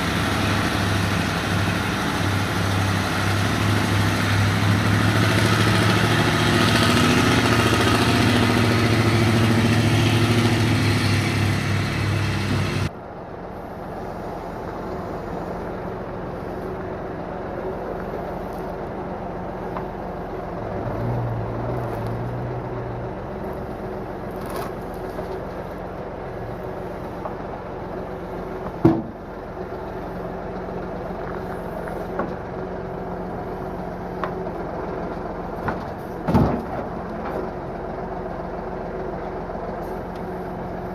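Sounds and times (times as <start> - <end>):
engine running loudly: 0.0 - 35.9
quieter engine hum: 0.0 - 40.9.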